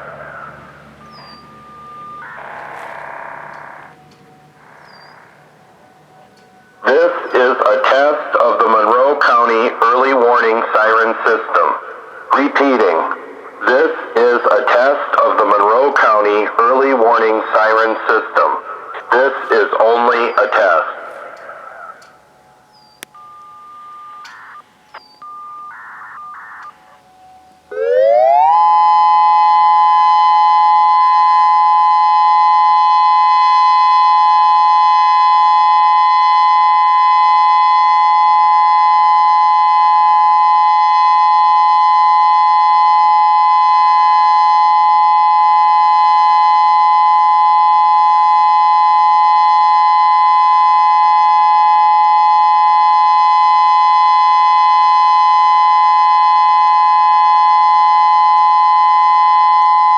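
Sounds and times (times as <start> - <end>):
warning siren: 0.0 - 59.9.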